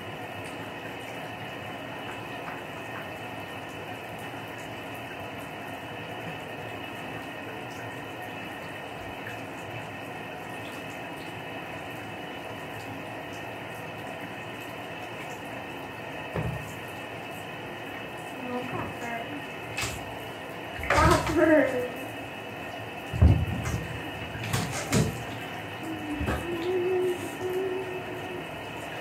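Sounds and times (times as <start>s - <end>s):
water running from bathtub tap: 0.0s - 29.0s.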